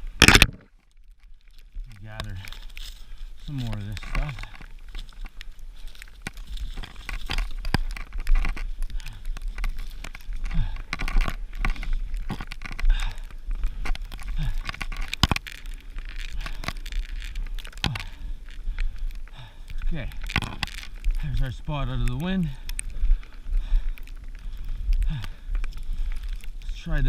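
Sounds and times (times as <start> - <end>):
dry twigs snapping: 0.0 - 27.0.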